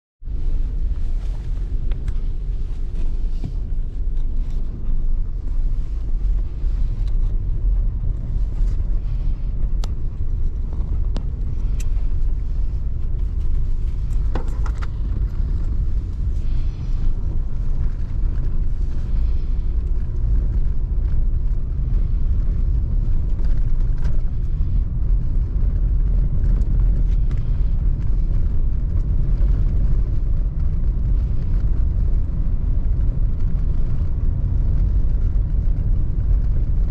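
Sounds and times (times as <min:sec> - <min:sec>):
vehicle engine and tyres rumbling: 0:00.2 - 0:36.9.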